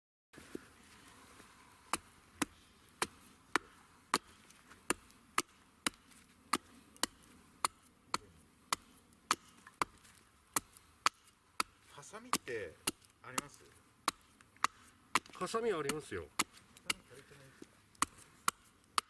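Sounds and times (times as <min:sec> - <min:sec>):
wood chopping strikes: 0:01.9 - 0:17.3, 0:17.9 - 0:19.0.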